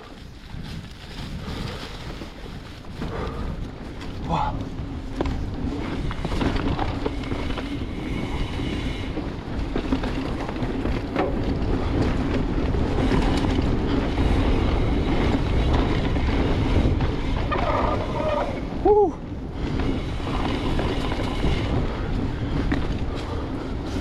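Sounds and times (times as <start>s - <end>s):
bike clicks and rattles: 0.0s - 24.0s
bike tyres rolling on dirt: 0.0s - 24.0s
wind rushing over microphone: 0.0s - 24.0s.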